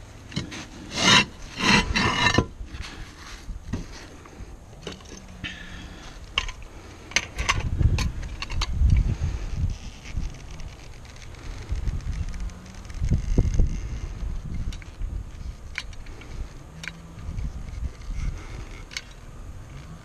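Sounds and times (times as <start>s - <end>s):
roof tile scraping: 0.3s - 20.0s.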